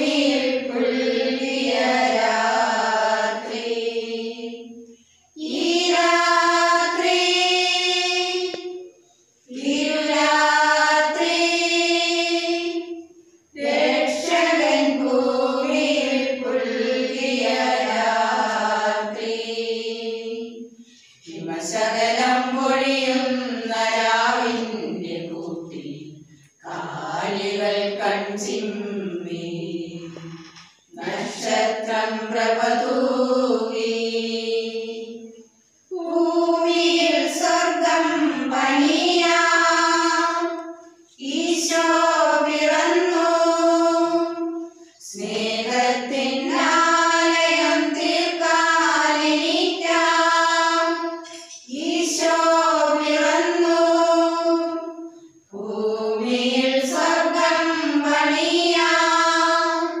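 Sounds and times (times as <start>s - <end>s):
women's choir singing a carol: 0.0s - 60.0s.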